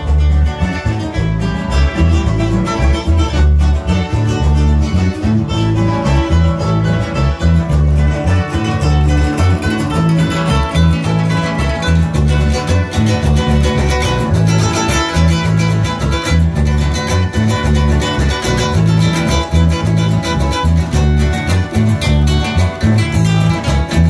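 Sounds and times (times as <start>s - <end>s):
folk dance music on guitars: 0.0s - 24.0s
plucked bass line: 0.0s - 24.0s.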